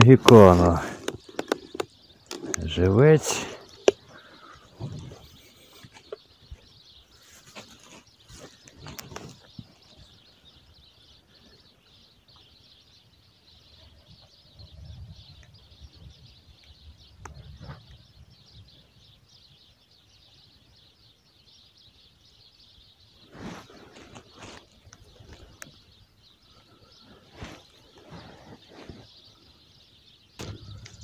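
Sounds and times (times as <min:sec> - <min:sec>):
birds chirping chorus: 0:00.0 - 0:31.0.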